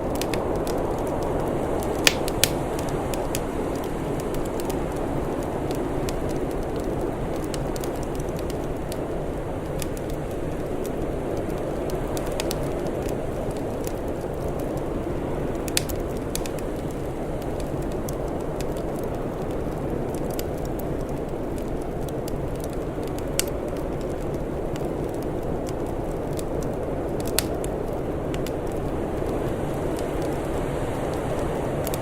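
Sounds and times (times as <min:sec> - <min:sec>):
wood fire crackling: 0:00.0 - 0:32.0
sharp fire pops: 0:00.1 - 0:32.0.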